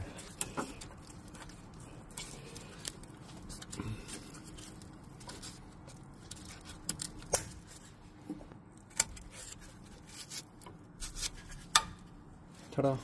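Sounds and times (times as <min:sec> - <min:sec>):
light scraping and handling: 0:00.0 - 0:13.0.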